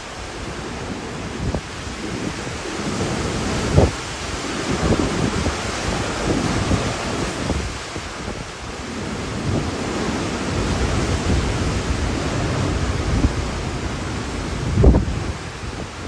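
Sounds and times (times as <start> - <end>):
hurricane wind with rain: 0.0 - 16.0
wind buffeting microphone: 0.0 - 16.0.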